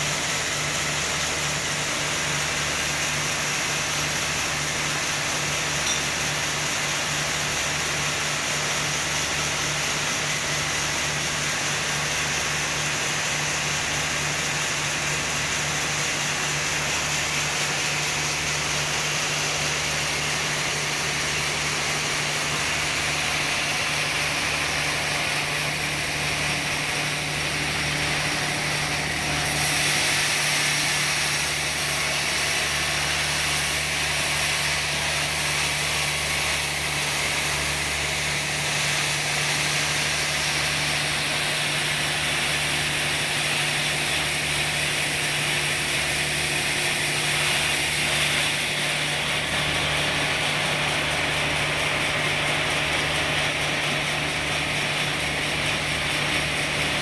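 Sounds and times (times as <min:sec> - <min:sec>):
sawmill sawing a log: 0:00.0 - 0:57.0.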